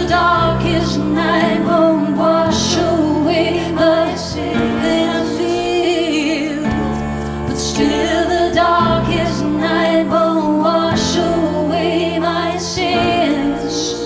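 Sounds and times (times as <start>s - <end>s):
sustained piano chords: 0.0s - 14.0s
woman's looped vocals: 0.0s - 14.0s.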